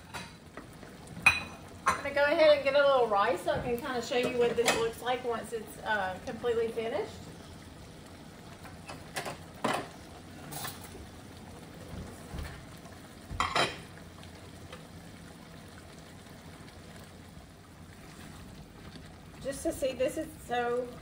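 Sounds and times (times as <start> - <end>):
pot simmering: 0.0 - 21.0.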